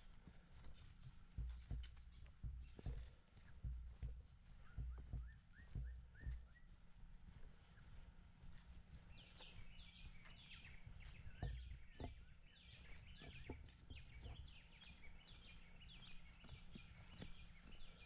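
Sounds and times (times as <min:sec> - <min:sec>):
footsteps on dry leaves: 0:00.0 - 0:18.0
bird singing chattering notes: 0:00.8 - 0:06.8, 0:09.1 - 0:18.0.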